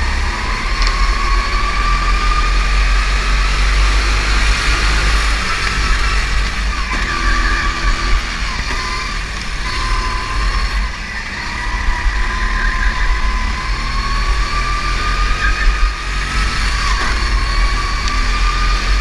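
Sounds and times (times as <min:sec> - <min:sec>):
go-kart engine revving: 0:00.0 - 0:19.0.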